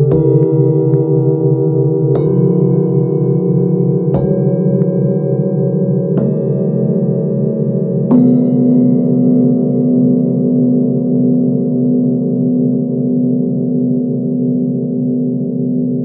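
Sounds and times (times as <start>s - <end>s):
singing bowls struck with mallet: 0.0s - 16.0s.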